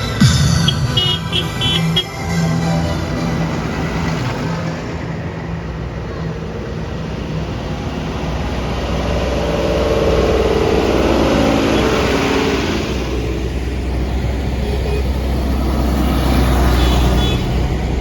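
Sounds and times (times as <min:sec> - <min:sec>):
tractor engines running: 0:00.0 - 0:18.0.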